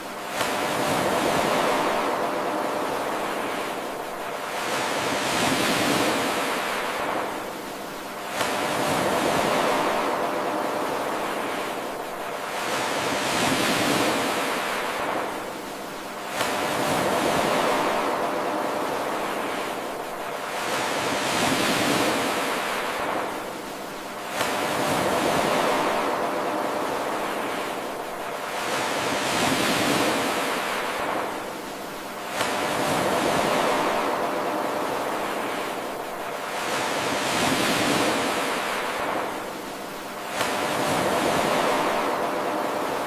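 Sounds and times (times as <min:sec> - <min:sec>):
ocean waves washing: 0:00.0 - 0:43.0.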